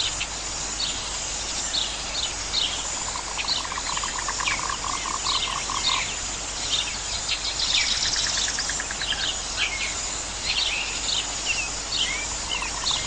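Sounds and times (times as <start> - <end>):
birds chirping: 0.0 - 13.0
steady hiss: 0.0 - 13.0.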